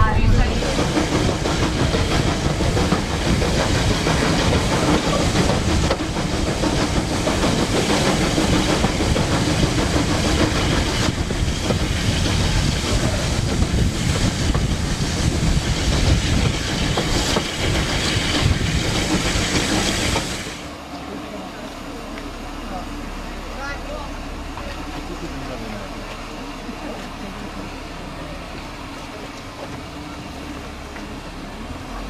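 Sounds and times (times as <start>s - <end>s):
steam locomotive hissing: 0.0s - 32.0s
train wheels rumbling on rails: 0.0s - 32.0s.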